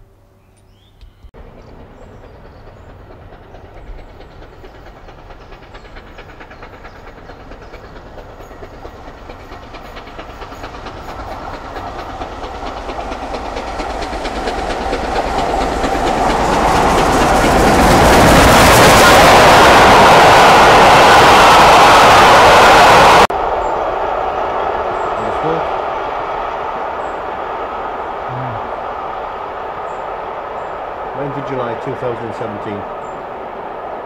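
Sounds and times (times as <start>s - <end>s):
steam locomotive exhaust beat: 1.4s - 34.0s.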